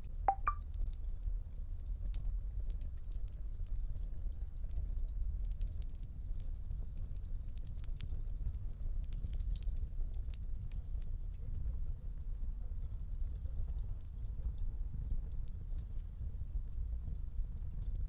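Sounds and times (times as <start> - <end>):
wood fire crackling and popping: 1.5 - 18.0
low rumble of flames: 1.6 - 18.0.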